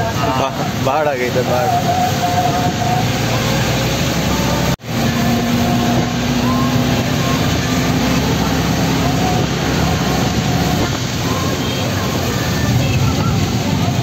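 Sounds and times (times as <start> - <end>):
vehicle road noise hiss: 0.0 - 14.0
faint engine hum: 1.7 - 14.0.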